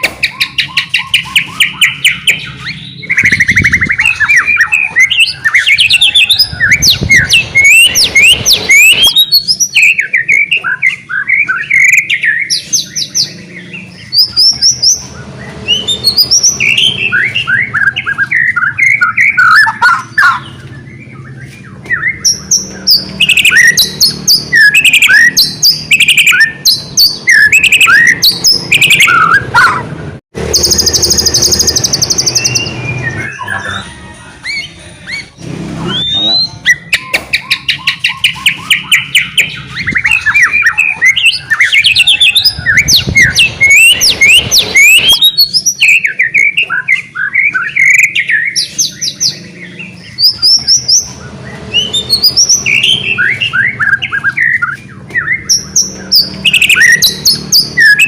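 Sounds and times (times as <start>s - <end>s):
bird singing varied whistles: 0.0s - 29.5s, 30.5s - 33.8s, 34.4s - 58.0s.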